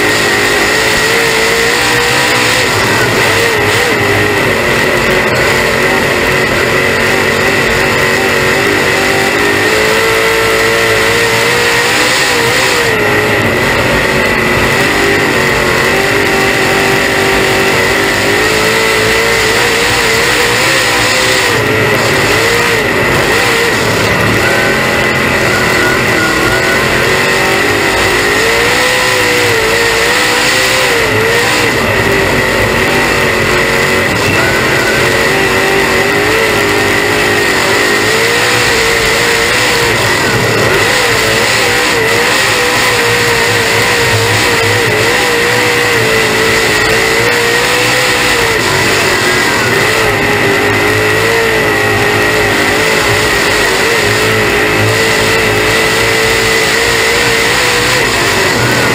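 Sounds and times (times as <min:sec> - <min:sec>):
race car engine revving: 0:00.0 - 0:58.9
steady high whine: 0:00.0 - 0:58.9.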